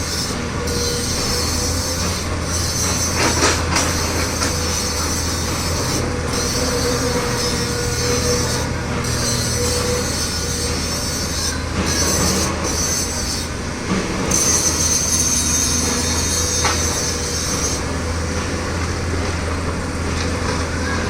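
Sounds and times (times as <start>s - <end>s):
high metallic squeal: 0.0s - 18.2s
heavy machinery droning: 0.0s - 21.0s.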